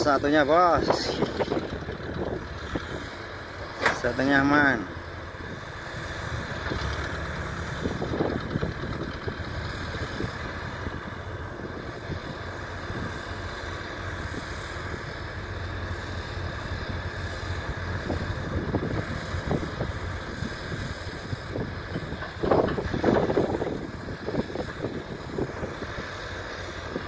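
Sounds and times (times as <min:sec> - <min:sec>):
diesel engines rumbling: 0:00.0 - 0:27.0.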